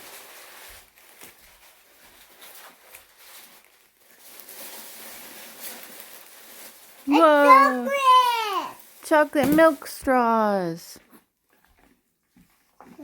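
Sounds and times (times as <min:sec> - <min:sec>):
gift packaging rustling and clicking: 0:00.0 - 0:13.0.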